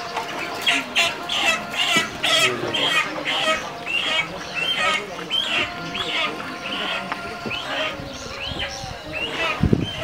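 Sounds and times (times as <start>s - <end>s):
bird calling: 0.0s - 10.0s.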